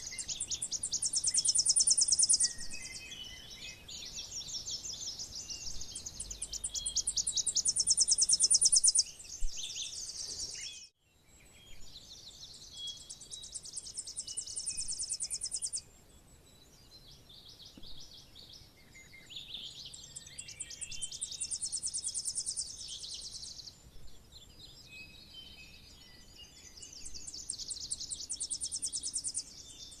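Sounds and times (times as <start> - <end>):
warbler singing trills: 0.0 - 30.0.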